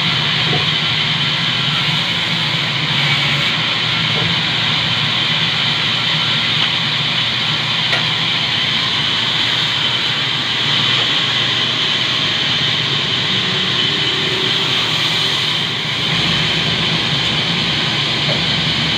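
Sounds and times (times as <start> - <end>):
band saw cutting log: 0.0 - 18.9.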